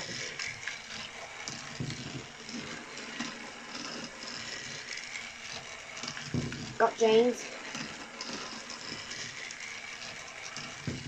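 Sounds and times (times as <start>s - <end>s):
toy train motor whirring: 0.0s - 11.0s
wheels clicking and rattling on track: 0.0s - 11.0s.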